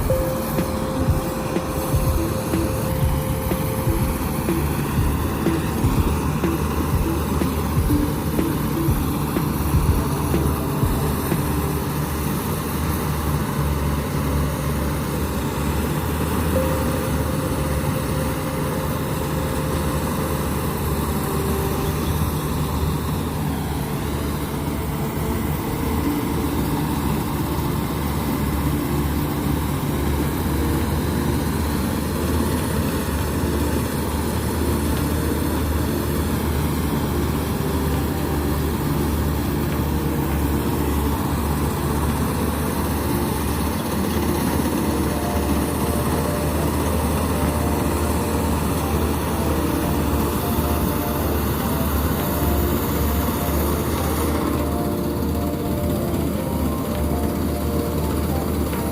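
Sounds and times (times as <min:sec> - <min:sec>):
combine harvester engine droning: 0:00.0 - 0:58.9.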